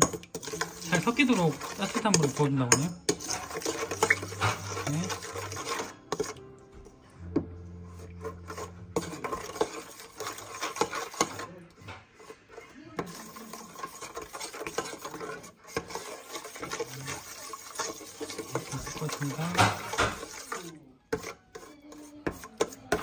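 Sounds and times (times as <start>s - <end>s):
metal spoon scraping bowl: 0.0s - 6.6s, 7.2s - 23.0s.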